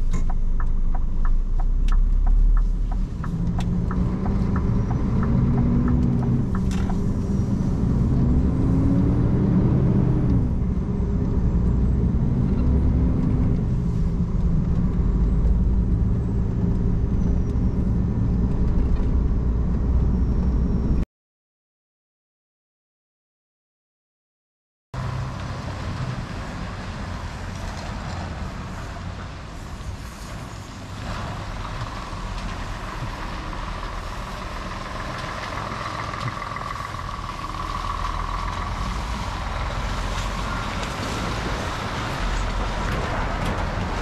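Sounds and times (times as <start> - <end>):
diesel truck engine: 0.0 - 21.0, 25.0 - 44.0.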